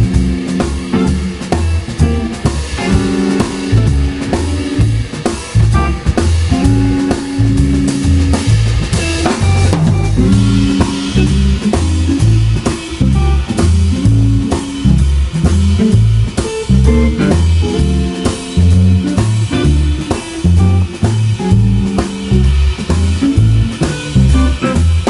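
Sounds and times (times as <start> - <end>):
drum kit: 0.0 - 25.0
electric bass: 0.0 - 25.0
electric guitar: 0.0 - 25.0.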